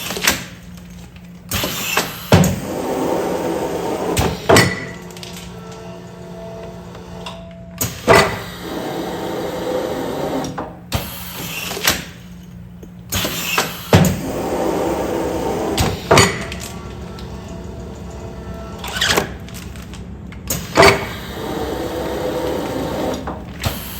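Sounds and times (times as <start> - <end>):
sealing machine hum: 0.0 - 23.9.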